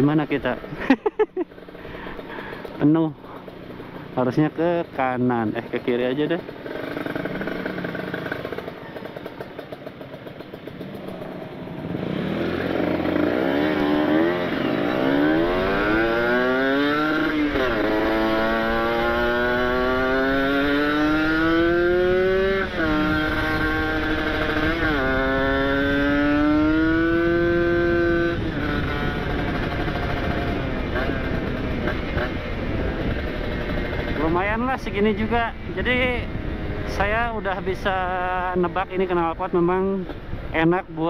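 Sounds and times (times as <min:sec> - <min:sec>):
two-stroke motorcycle accelerating: 0:00.0 - 0:41.0.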